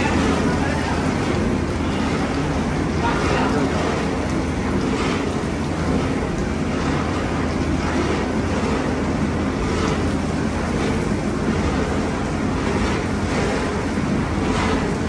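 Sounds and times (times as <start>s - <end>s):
factory machinery low hum: 0.0s - 15.0s
loud rush of machine noise: 0.0s - 15.0s.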